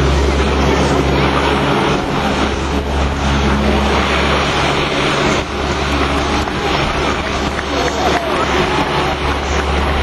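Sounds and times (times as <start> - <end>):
turboprop engines running: 0.0 - 10.0.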